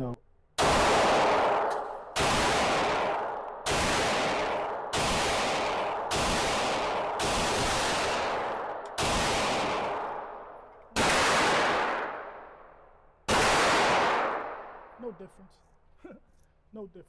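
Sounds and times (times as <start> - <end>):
pistol shots echoing: 0.6 - 15.1.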